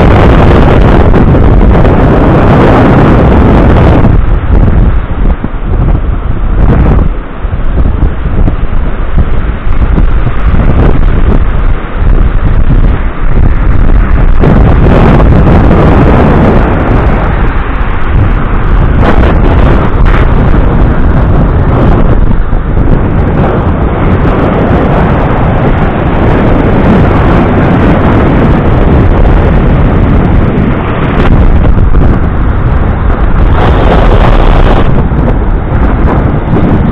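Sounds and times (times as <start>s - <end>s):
stormy surf on sand: 0.0s - 36.9s
wind buffeting microphone: 0.0s - 36.9s.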